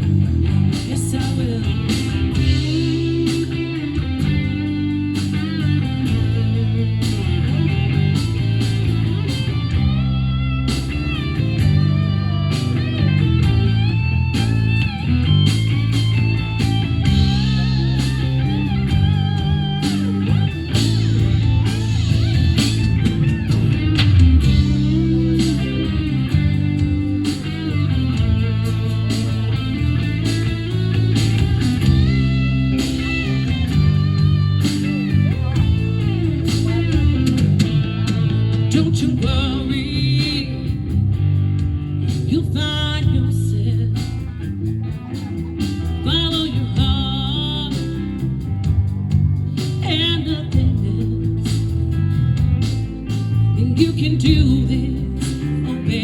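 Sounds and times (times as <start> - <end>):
bass and drums: 0.0 - 56.0
electric guitar solo: 0.0 - 56.0.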